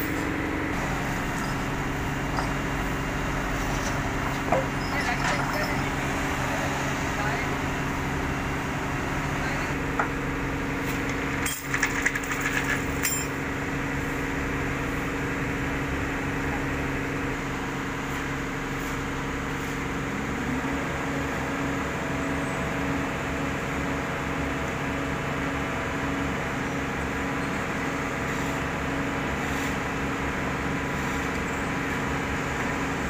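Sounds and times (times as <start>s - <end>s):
diesel engine idling: 0.0s - 11.4s, 12.8s - 33.0s.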